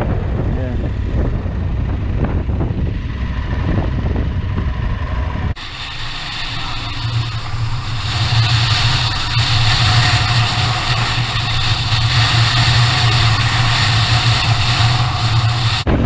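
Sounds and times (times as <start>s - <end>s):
motorcycle engine running: 0.0s - 16.0s
wind rumble on microphone: 0.0s - 16.0s.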